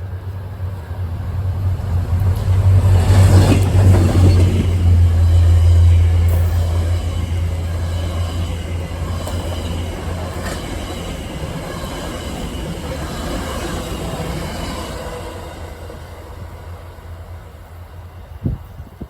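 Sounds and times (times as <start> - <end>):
train engine drone: 0.0 - 19.0
train wheels rushing on rails: 0.0 - 19.0.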